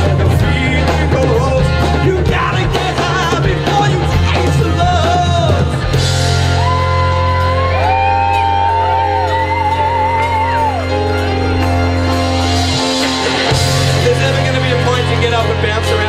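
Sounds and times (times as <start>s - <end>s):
live rock band with horns: 0.0s - 16.0s.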